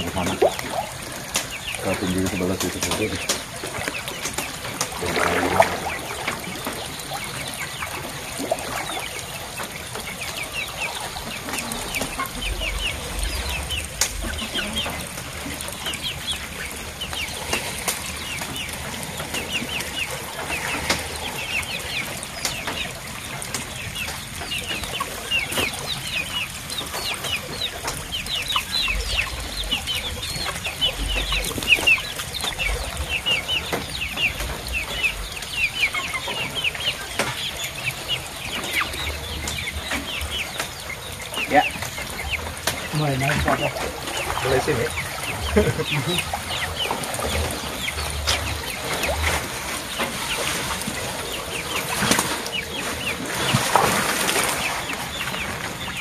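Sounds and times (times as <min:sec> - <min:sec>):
chickens peeping: 0:00.0 - 0:56.0.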